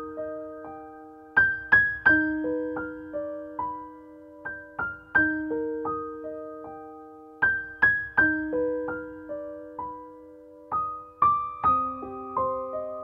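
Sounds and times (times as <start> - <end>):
gentle keyboard melody: 0.0 - 13.0.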